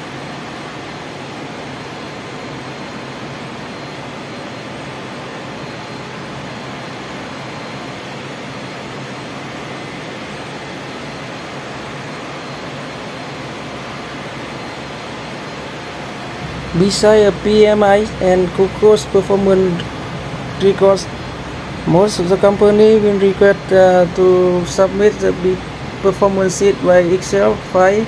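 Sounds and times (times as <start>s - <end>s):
machinery and ventilation roar: 0.0s - 28.0s.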